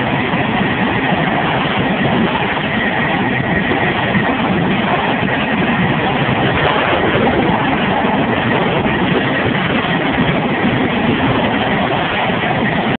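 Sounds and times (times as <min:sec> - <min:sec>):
jet engine roaring: 0:00.0 - 0:13.0.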